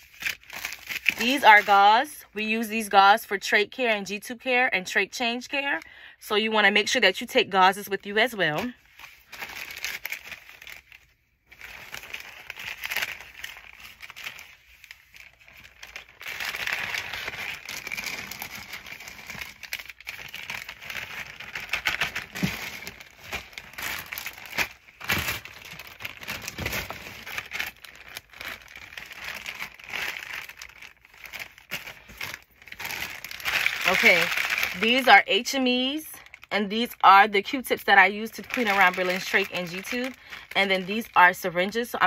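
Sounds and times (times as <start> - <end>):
plastic bags crinkling: 0.0 - 2.0, 8.4 - 42.0.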